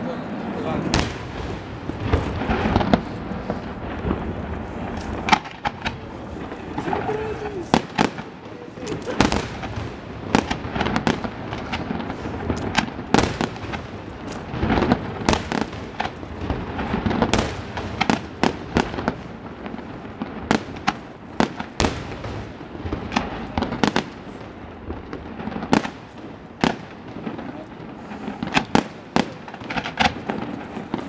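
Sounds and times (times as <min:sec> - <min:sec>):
background noise: 0:00.0 - 0:31.0
fireworks banging: 0:00.0 - 0:31.0.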